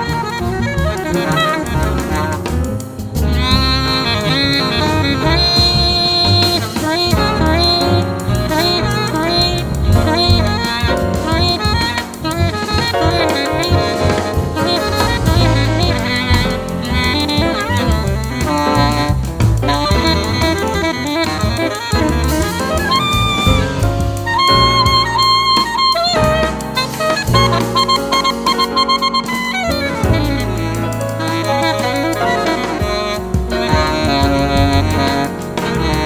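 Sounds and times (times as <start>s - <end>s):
alto saxophone: 0.0s - 36.0s
bass: 0.0s - 36.0s
drum kit: 0.0s - 36.0s
piano: 0.0s - 36.0s.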